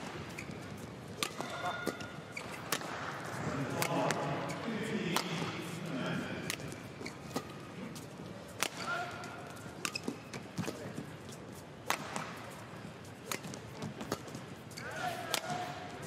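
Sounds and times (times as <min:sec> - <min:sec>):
racquets hitting shuttlecock: 0:00.0 - 0:05.6, 0:06.4 - 0:07.6, 0:08.5 - 0:11.2, 0:11.8 - 0:16.0.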